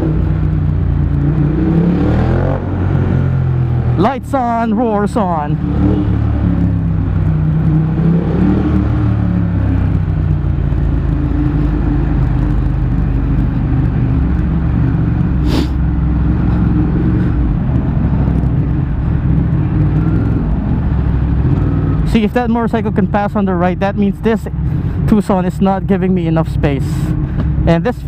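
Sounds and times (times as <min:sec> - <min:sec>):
car engine running: 0:00.0 - 0:28.0
road noise inside car: 0:00.0 - 0:28.0.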